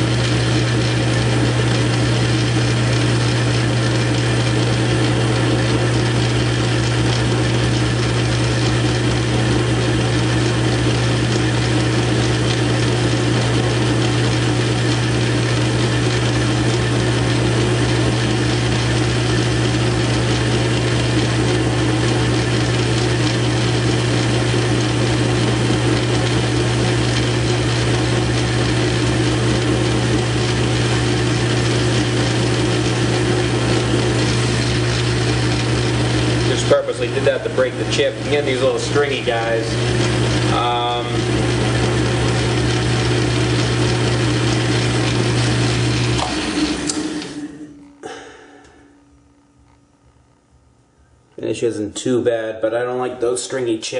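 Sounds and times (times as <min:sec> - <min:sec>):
lathe tool cutting steel: 0:00.0 - 0:47.6
lathe motor humming: 0:00.0 - 0:49.0.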